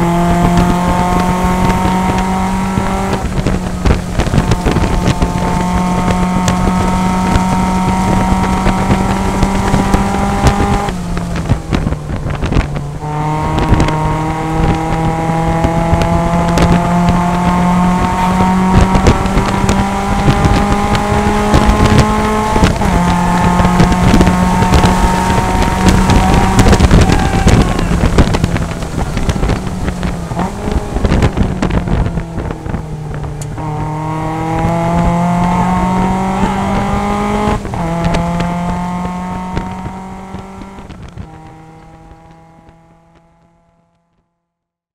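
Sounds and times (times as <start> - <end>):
race car engine at high revs: 0.0 - 44.3.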